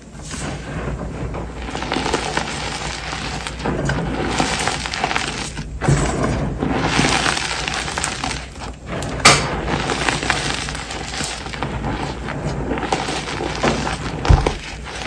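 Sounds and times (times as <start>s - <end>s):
hands crunching chalk powder: 1.6s - 15.0s.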